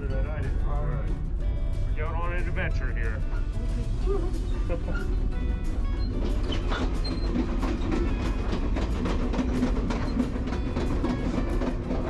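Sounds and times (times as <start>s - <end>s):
train rail car rumble: 0.0s - 12.0s
wheels rattling and clacking: 0.0s - 12.0s.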